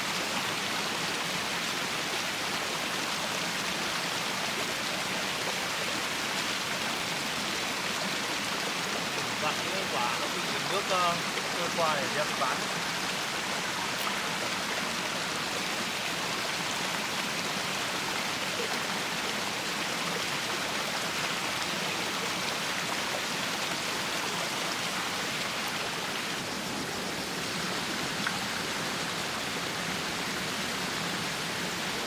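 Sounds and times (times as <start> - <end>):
floodwater rushing: 0.0 - 32.0
heavy rain: 0.0 - 32.0.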